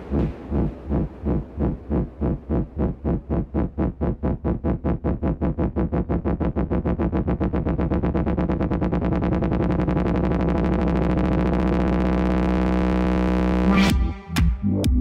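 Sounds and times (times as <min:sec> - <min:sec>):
electronic dance music build-up: 0:00.0 - 0:15.0.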